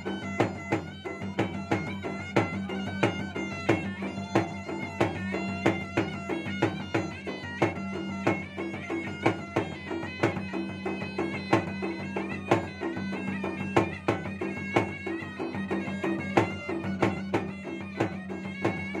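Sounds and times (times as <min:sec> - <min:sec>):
nasal double-reed pipe melody: 0:00.0 - 0:19.0.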